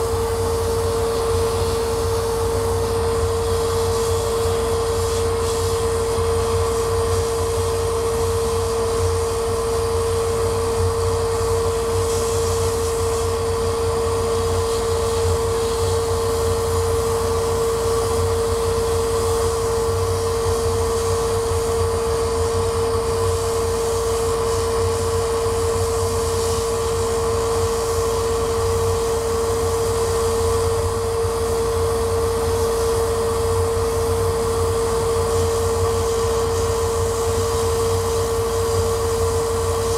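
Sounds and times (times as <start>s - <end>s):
laser cutter whirring: 0.0s - 39.9s.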